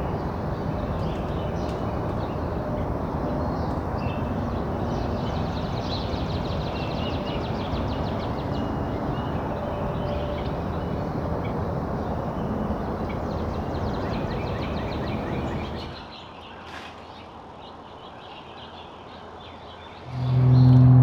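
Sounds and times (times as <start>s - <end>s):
distant traffic rumble: 0.0s - 16.0s, 20.0s - 21.0s
songbirds chirping: 0.0s - 21.0s.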